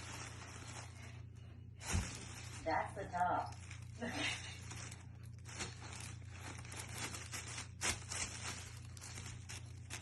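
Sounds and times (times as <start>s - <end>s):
low steady hum: 0.0s - 10.0s
tissue paper rustling and crinkling: 0.0s - 10.0s.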